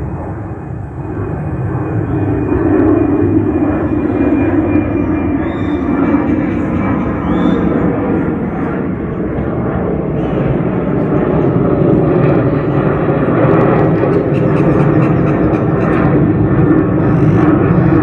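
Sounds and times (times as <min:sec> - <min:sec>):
airliner engines taking off: 0:00.0 - 0:18.0.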